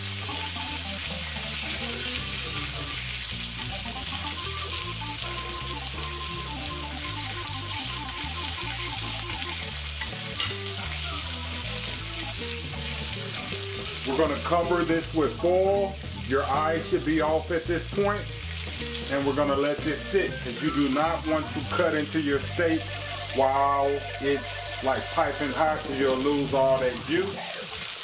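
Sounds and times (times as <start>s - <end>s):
quiet background music: 0.0s - 28.0s
steak sizzling in pan: 0.0s - 28.0s.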